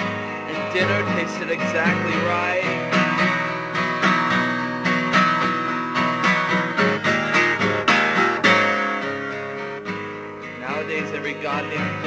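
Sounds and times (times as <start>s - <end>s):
guitar chords strummed: 0.0s - 12.0s.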